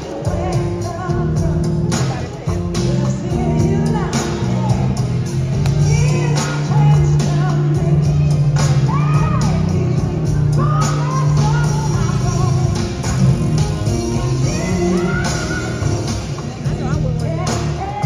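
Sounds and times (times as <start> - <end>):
song with singing and beat: 0.0 - 18.0.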